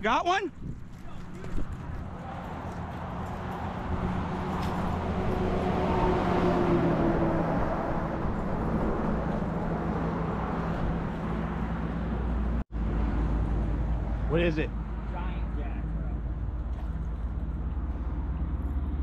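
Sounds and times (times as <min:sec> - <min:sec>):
traffic rumble: 0:00.0 - 0:19.0
vehicle passing: 0:00.6 - 0:19.0.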